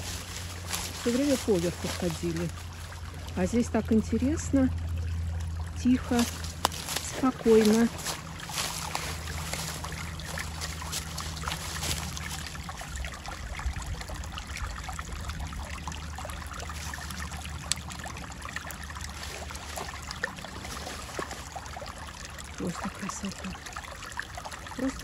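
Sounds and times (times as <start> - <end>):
stream trickling: 0.0 - 25.0.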